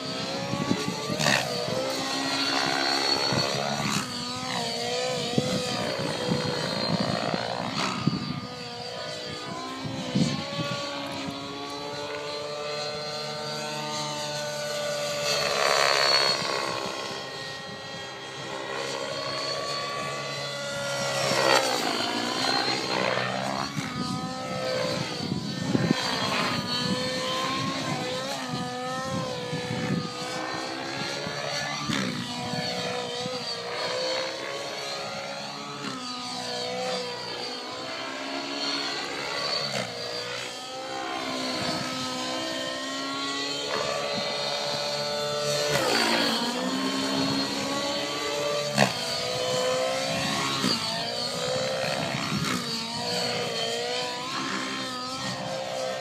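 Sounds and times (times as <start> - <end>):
model helicopter engine and rotor: 0.0 - 56.0.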